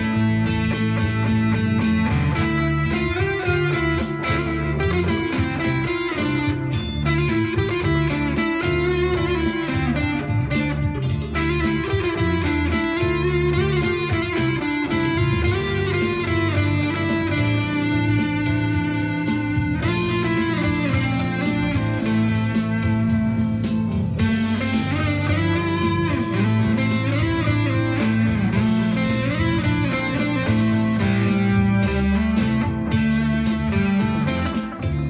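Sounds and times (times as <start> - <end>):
backing track with bass line: 0.0 - 35.0
electric guitar lead notes: 0.0 - 35.0.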